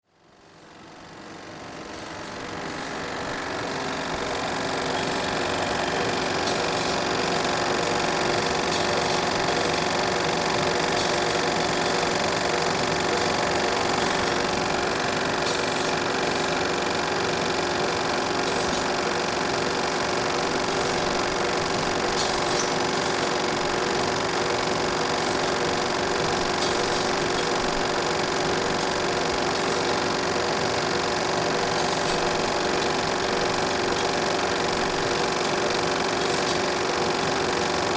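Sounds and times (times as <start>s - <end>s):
film projector clattering: 1.0s - 37.9s.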